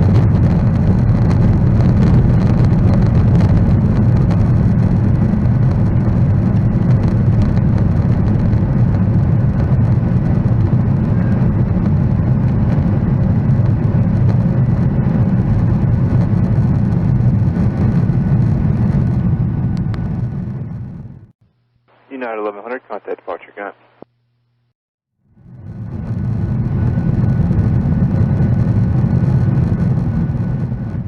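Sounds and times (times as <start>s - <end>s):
jet engine noise in cabin: 0.0s - 21.4s, 25.3s - 31.0s.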